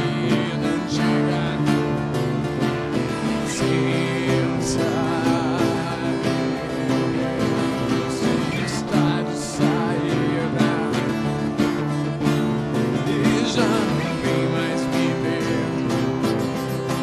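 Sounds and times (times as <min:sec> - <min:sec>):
guitar strumming: 0:00.0 - 0:17.0.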